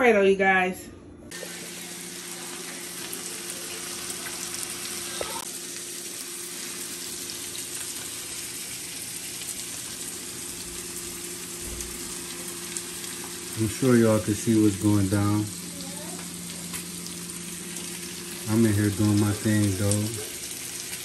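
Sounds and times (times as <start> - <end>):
chicken sizzling in oil: 1.3 - 21.0.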